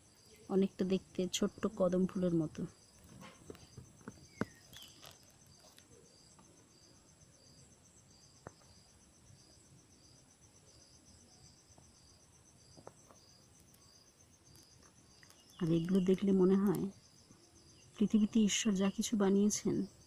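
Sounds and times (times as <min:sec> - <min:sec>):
crickets chirping: 0:00.0 - 0:20.0
high insect trill: 0:00.0 - 0:20.0.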